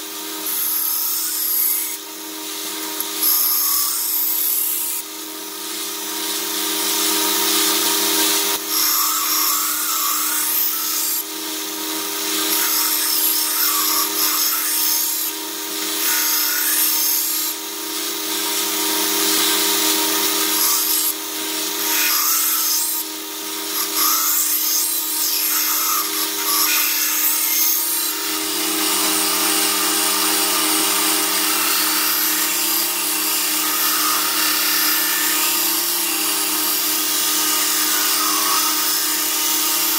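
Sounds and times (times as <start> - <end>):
belt grinder motor hum: 0.0 - 39.9.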